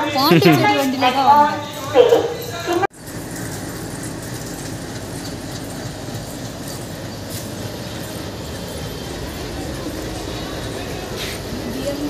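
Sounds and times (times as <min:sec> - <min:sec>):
rumbling railway platform noise: 0:00.0 - 0:12.0.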